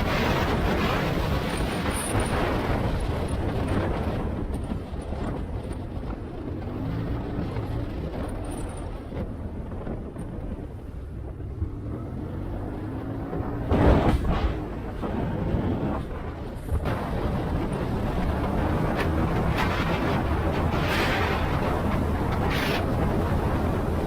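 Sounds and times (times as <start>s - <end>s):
motorcycle engine drone: 0.0s - 24.0s
riding wind rushing: 0.0s - 24.0s.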